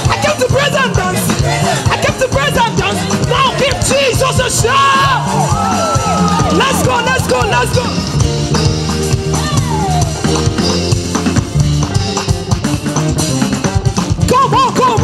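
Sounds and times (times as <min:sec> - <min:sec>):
deep bass notes: 0:00.0 - 0:15.0
drum kit beat: 0:00.0 - 0:15.0
held keyboard chords: 0:00.0 - 0:15.0.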